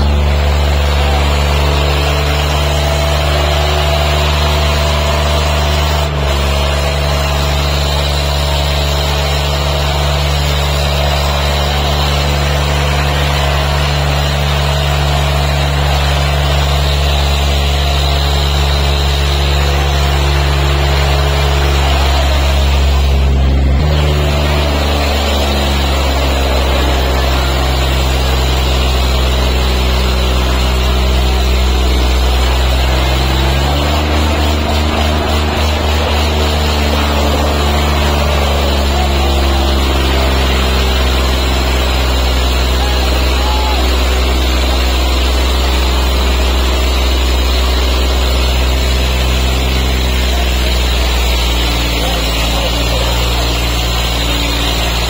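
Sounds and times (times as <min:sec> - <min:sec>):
tractor engines under heavy load: 0:00.0 - 0:55.0.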